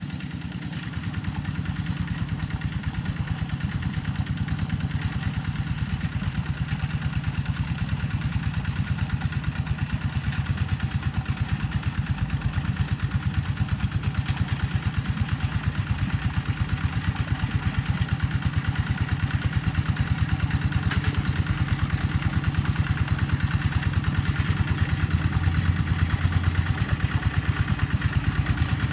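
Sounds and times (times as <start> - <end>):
diesel engine knocking: 0.0 - 28.9.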